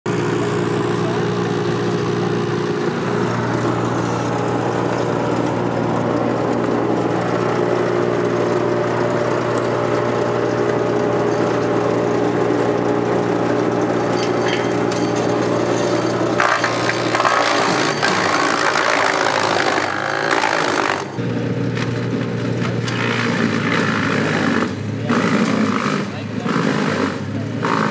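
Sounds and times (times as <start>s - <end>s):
machine engines droning: 0.1s - 27.9s.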